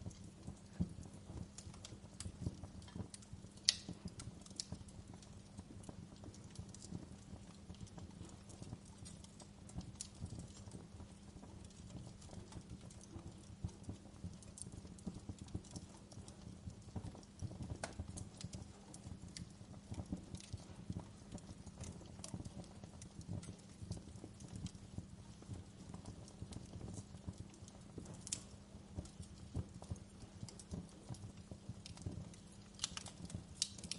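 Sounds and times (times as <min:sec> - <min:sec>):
low rumble of flames: 0:00.0 - 0:33.9
wood fire crackling and popping: 0:00.0 - 0:33.9.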